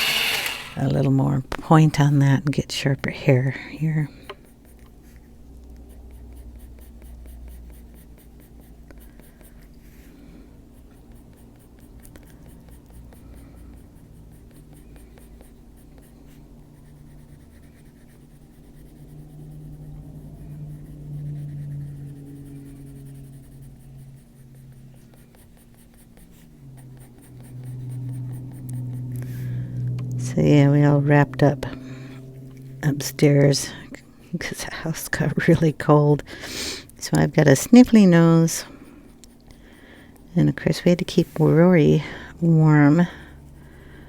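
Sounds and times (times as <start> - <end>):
pencil scratching on paper: 0.0 - 36.0, 37.2 - 43.8.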